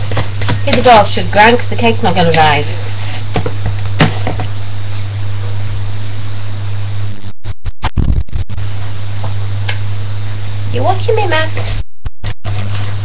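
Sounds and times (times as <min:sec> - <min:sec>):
loud low hum with hiss: 0:00.0 - 0:13.0.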